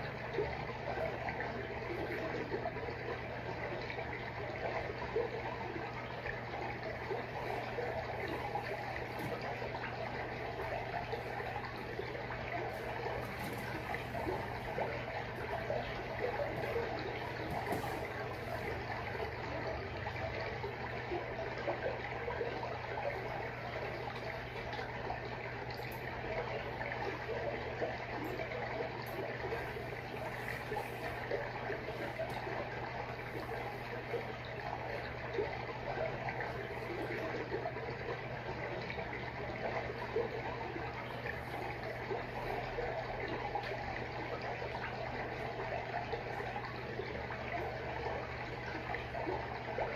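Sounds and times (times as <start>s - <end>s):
aquarium water trickling and bubbling: 0.0s - 49.9s
low steady hum: 0.0s - 49.9s.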